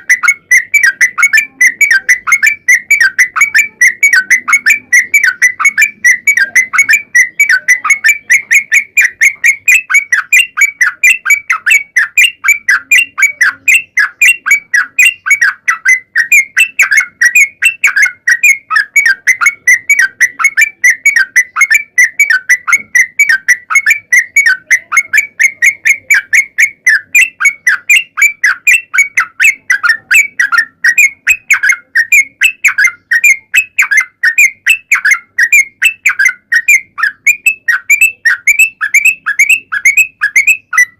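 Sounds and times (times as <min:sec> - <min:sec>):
bird song whistled notes: 0:00.0 - 0:40.9.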